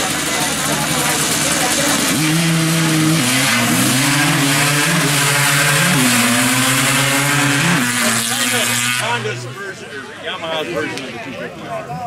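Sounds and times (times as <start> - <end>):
atv engines at full throttle: 0.0 - 10.9.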